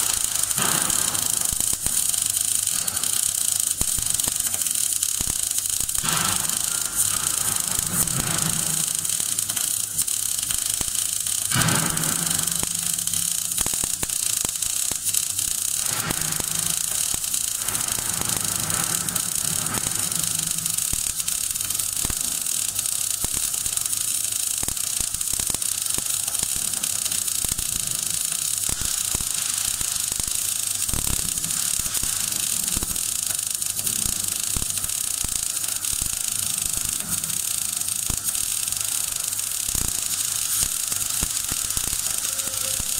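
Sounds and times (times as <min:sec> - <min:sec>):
welding arc crackling hiss: 0:00.0 - 0:42.9.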